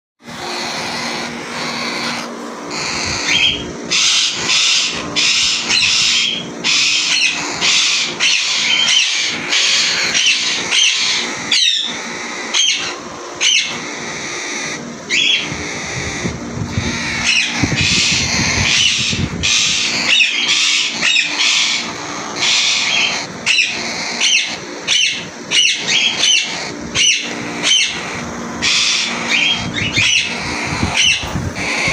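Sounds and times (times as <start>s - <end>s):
parrots chattering and calling: 0.2s - 31.9s.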